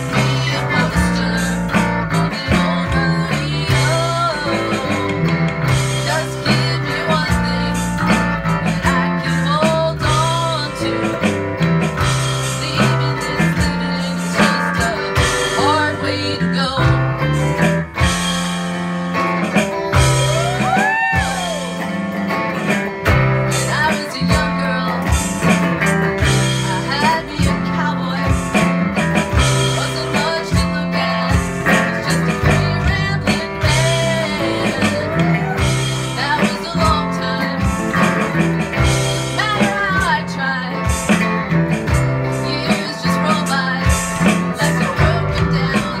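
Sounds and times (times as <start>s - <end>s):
woman singing: 0.0s - 17.8s, 23.4s - 41.2s, 42.2s - 46.0s
bass line: 0.0s - 46.0s
electric guitar with bent notes: 0.0s - 46.0s
strummed acoustic guitar: 0.0s - 46.0s.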